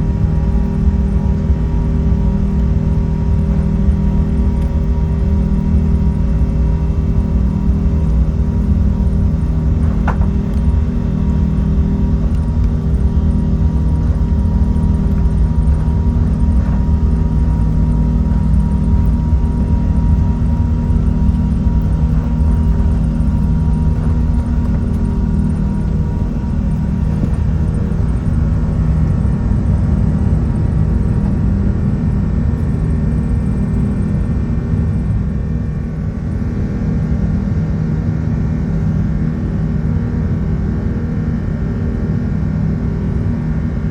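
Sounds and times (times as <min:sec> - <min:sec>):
steady hums: 0:00.0 - 0:39.1
jet engine rumble in cabin: 0:00.0 - 0:43.9.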